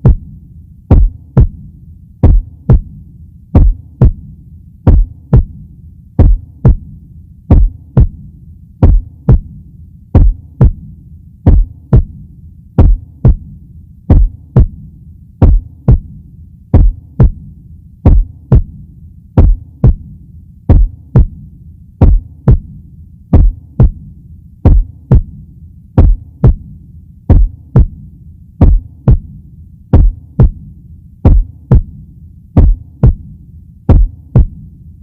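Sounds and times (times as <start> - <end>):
heartbeat thumps: 0.0 - 34.7.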